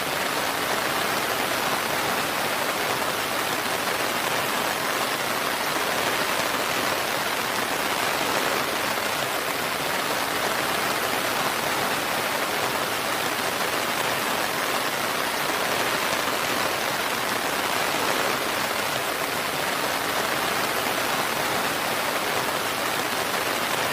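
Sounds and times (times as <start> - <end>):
steady rainfall: 0.0 - 23.9.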